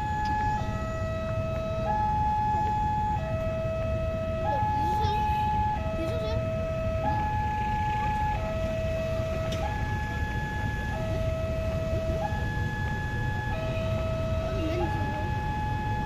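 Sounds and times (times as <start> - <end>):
two-tone level-crossing alarm: 0.0 - 16.0.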